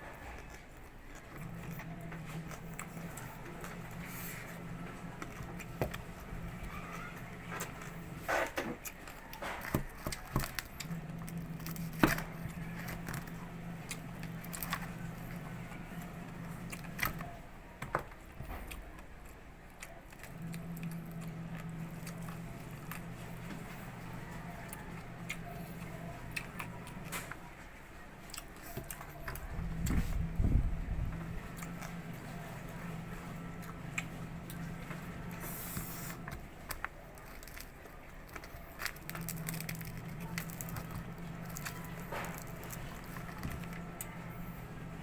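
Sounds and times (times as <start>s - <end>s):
crunching and chewing: 0.0s - 45.0s.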